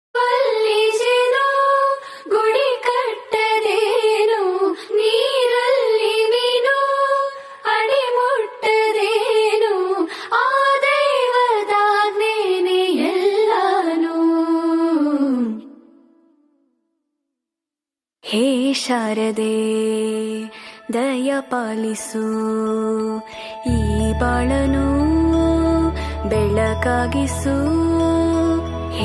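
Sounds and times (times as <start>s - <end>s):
high voice singing wordless melody: 0.2s - 16.1s, 18.2s - 29.0s.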